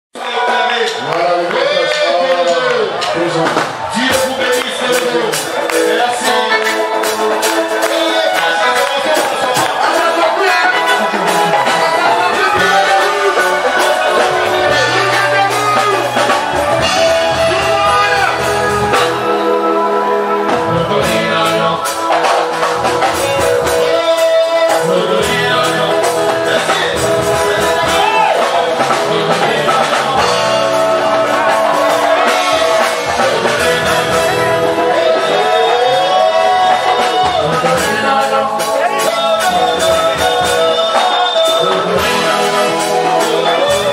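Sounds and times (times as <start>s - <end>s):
person singing: 0.2s - 43.9s
beat and bass line: 0.8s - 43.9s.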